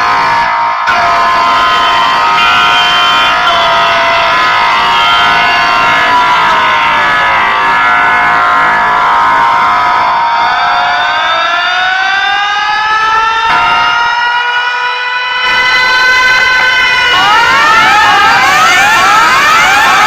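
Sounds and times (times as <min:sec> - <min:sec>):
siren effect through speakers: 0:00.0 - 0:20.0.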